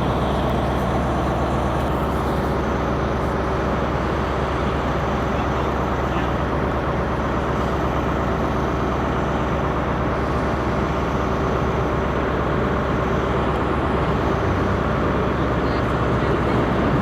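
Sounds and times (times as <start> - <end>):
diesel train engine humming: 0.0 - 17.0.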